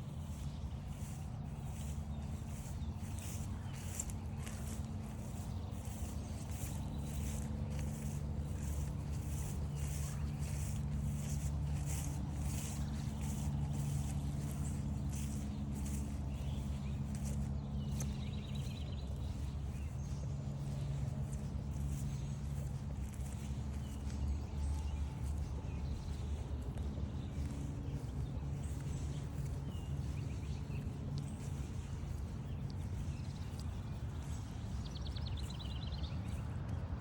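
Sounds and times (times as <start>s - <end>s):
low hum: 0.0s - 36.7s
footsteps walking: 0.0s - 37.0s.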